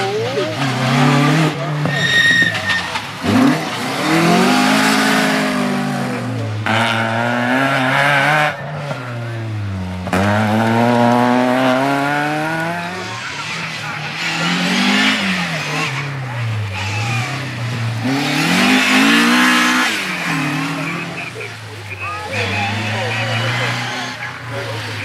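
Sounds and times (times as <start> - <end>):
car engine accelerating hard: 0.0 - 25.0
rally car engine revving: 0.0 - 25.0
tyres on gravel: 0.8 - 25.0.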